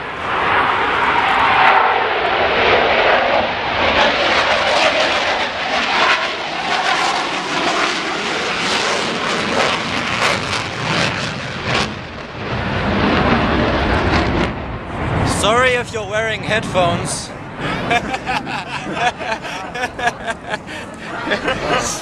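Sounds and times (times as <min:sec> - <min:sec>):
jet aircraft engine roar: 0:00.0 - 0:22.0.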